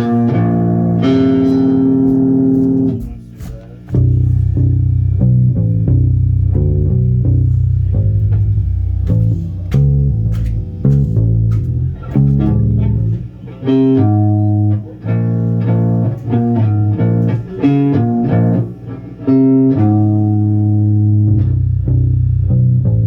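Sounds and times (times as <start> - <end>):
bass guitar playing: 0.0 - 23.0.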